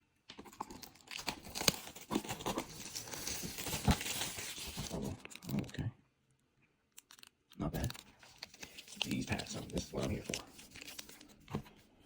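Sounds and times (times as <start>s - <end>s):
foil wrapper crinkling and tearing: 0.4s - 5.7s, 7.0s - 11.5s.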